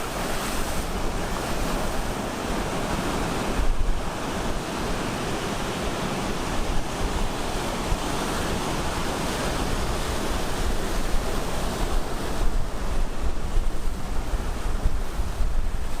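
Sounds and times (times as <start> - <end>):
ocean surf breaking on shore: 0.0 - 16.0.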